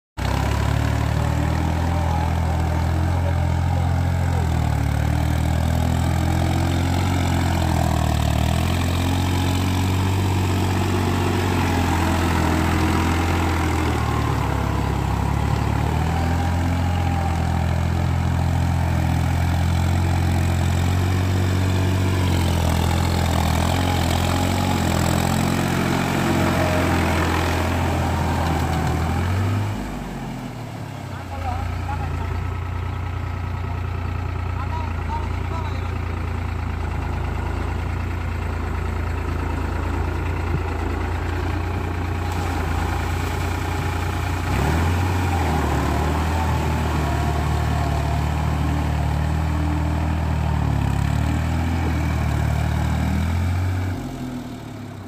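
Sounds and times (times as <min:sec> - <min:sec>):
tractor diesel engine running: 0:00.2 - 0:55.0.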